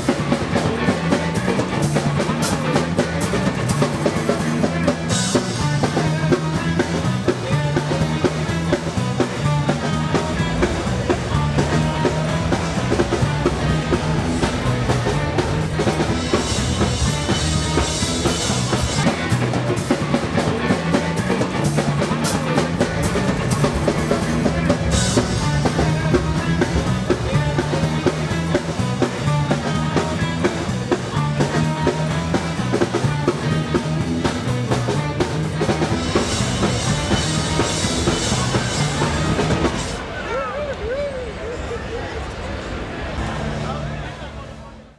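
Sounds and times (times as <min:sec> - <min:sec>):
repeating bass line: 0:00.0 - 0:40.0
rock drum beat: 0:00.0 - 0:40.1.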